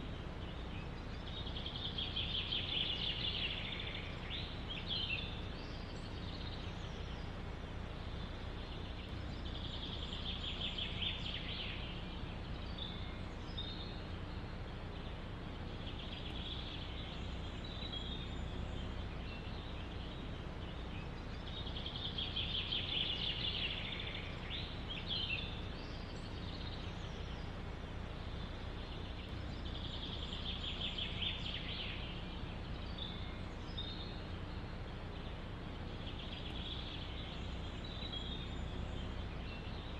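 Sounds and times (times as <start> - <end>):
songbird singing rapid trill: 0.0 - 39.9
wind through trees: 0.0 - 39.9.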